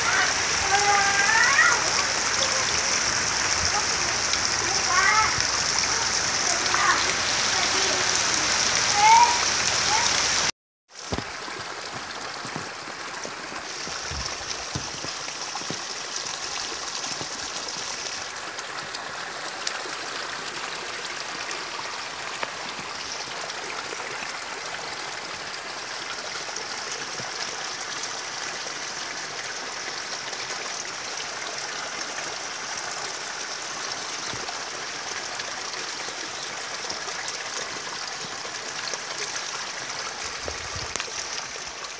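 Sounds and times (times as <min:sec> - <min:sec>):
heavy rain: 0:00.0 - 0:41.9
water rushing along dirt channel: 0:00.0 - 0:41.9.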